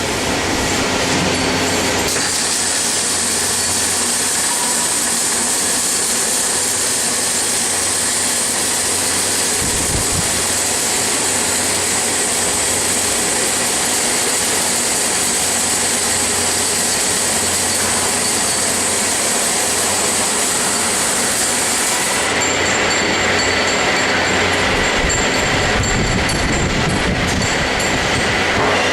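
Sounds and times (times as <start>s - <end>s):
welding machine hissing: 0.0s - 28.9s.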